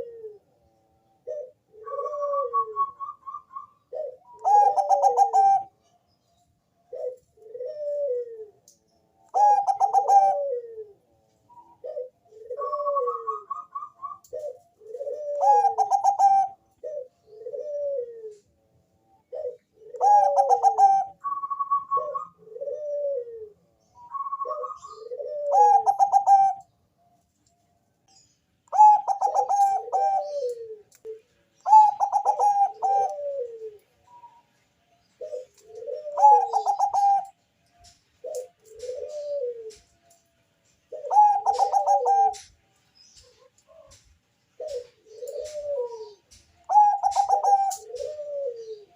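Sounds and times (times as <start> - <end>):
dove cooing song: 0.0 - 48.9.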